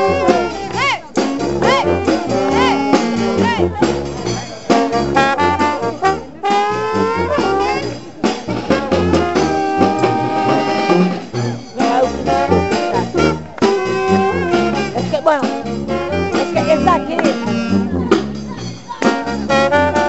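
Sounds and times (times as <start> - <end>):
brass band playing: 0.0 - 20.0.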